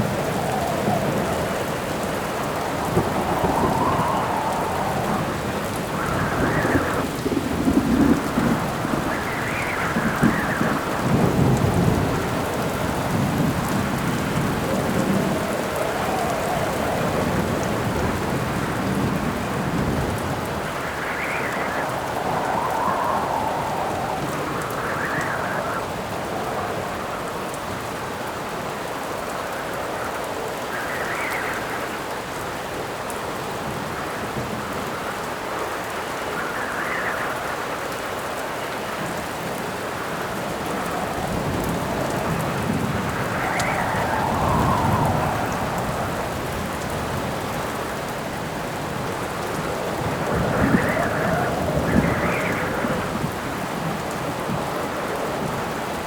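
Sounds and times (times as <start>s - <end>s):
thunder rumbling: 0.0s - 28.2s, 35.8s - 56.0s
howling wind gusts: 0.0s - 56.0s
steady rain: 0.0s - 56.0s.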